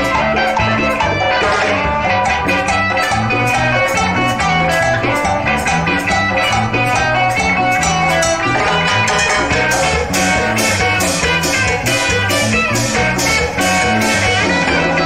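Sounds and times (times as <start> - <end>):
bass guitar: 0.0 - 15.0
drums: 0.0 - 15.0
electric guitar melody: 0.0 - 15.0.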